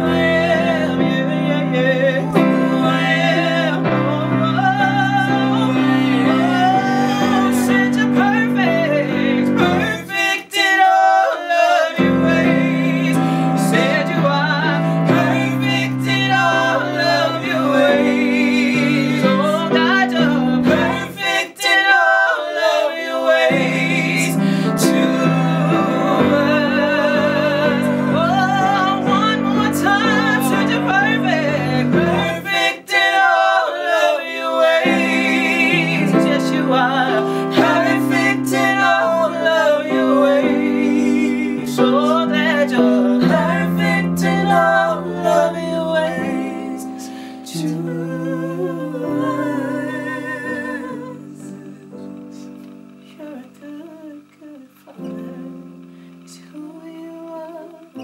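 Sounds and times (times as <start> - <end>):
backing singers: 0.0 - 58.0
woman singing lead: 0.0 - 58.0.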